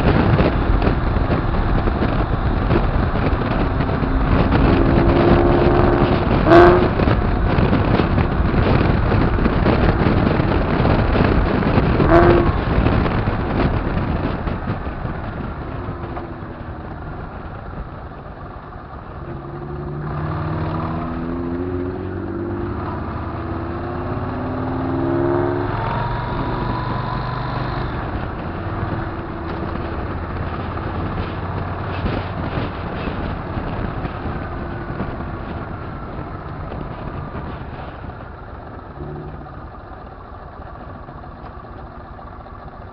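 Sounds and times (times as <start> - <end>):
motorcycle engine accelerating: 0.0 - 42.9
wind rush on microphone: 0.0 - 42.9.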